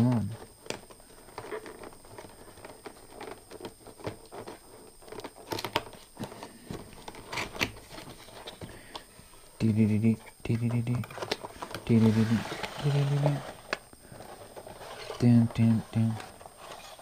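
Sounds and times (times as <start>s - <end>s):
packaging rustling and scraping: 0.0s - 9.5s, 11.0s - 17.0s.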